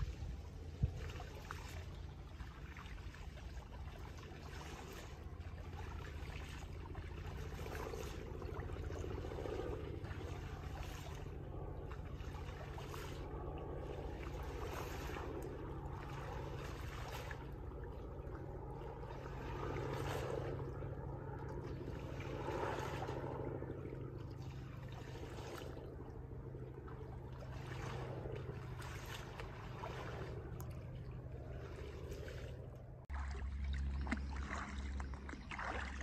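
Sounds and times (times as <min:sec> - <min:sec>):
wind rumble on microphone: 0:00.0 - 0:33.2
water sloshing and splashing: 0:00.0 - 0:36.0.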